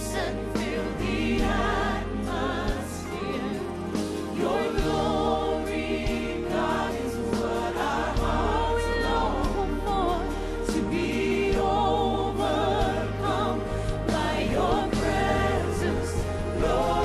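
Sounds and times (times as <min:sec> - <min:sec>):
backing singers: 0:00.0 - 0:17.0
band playing: 0:00.0 - 0:17.0
sustained low bass notes: 0:00.0 - 0:17.0
women singing gospel: 0:00.0 - 0:17.0.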